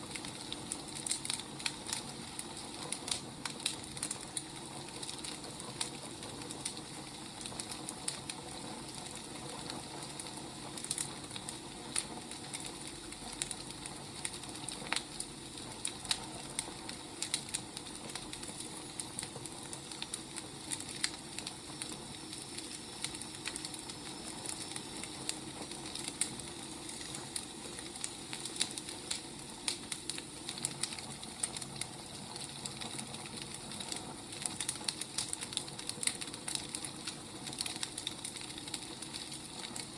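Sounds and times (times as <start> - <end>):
firewood crackling: 0.0 - 39.9.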